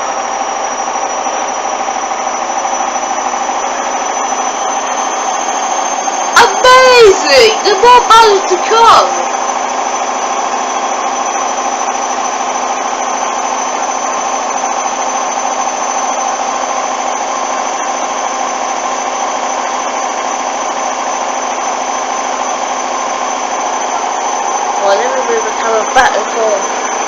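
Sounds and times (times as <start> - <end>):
high-pitched whine: 0.0 - 27.0
washing machine drum spinning: 0.0 - 27.0.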